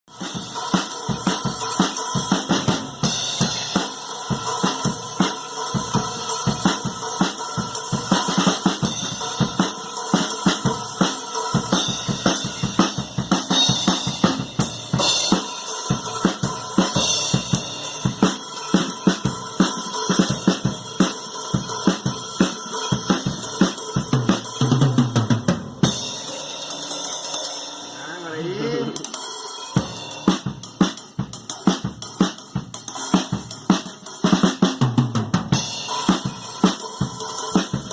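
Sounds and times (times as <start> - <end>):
drum kit playing: 0.0 - 37.9.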